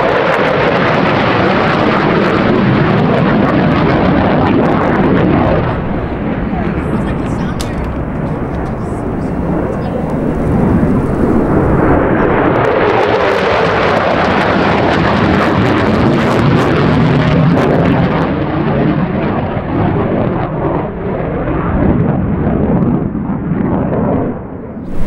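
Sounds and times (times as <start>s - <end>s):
jet engine roar with crackling: 0.0s - 25.0s.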